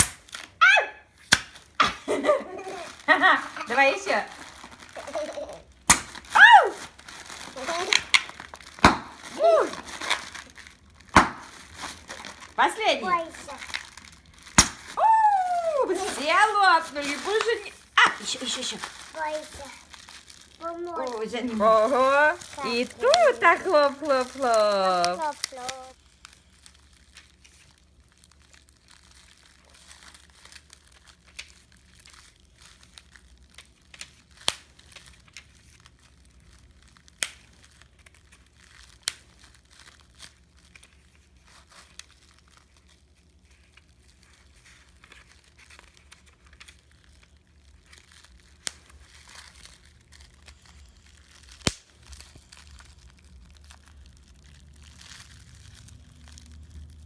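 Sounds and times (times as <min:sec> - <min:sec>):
bubble wrap crinkling: 0:00.0 - 0:57.0
bubble wrap popping: 0:00.0 - 0:57.0.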